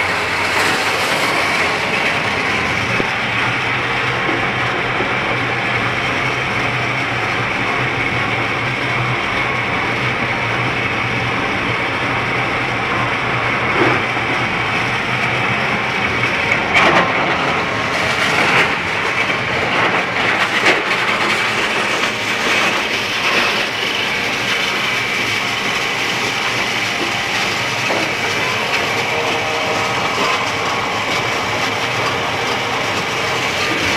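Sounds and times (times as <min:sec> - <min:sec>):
clattering machine noise: 0:00.0 - 0:33.9.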